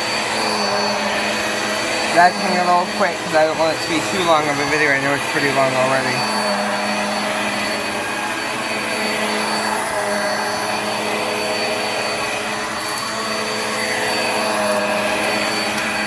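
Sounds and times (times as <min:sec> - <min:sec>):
vacuum motor whine: 0:00.0 - 0:16.0
vacuum suction airflow: 0:00.0 - 0:16.0.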